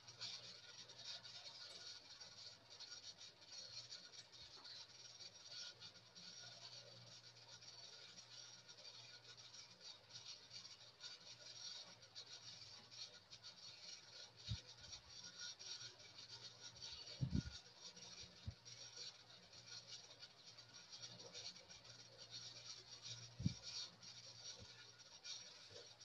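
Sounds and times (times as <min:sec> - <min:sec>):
scratchy rustle: 0:00.0 - 0:26.0.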